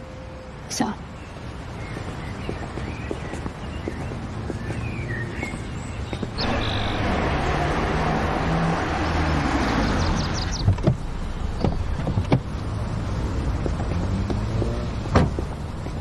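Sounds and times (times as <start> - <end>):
birds chirping: 0.0 - 16.0
car engine and tyre noise: 1.1 - 16.0.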